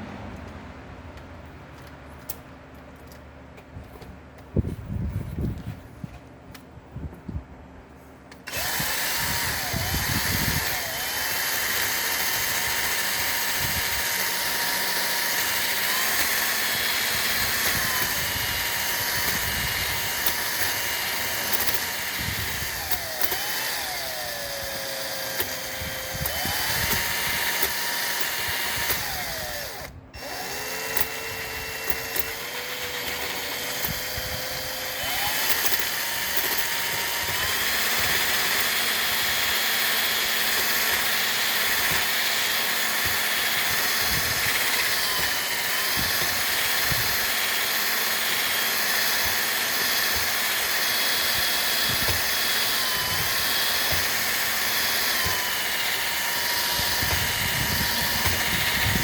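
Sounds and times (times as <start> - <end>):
power tool motor whining: 8.3 - 59.0.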